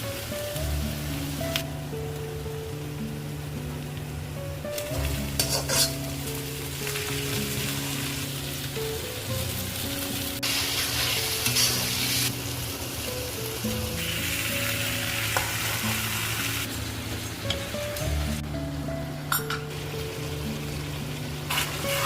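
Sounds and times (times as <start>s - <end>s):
chicken sizzling in a pan: 0.0s - 3.8s, 4.6s - 18.5s, 19.1s - 22.0s
slow background music: 0.0s - 22.0s.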